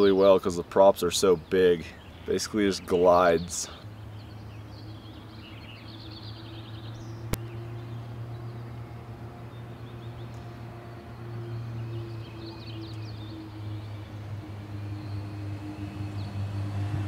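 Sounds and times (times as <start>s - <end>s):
birds chirping: 0.0s - 17.0s
drone motors humming: 2.0s - 17.0s.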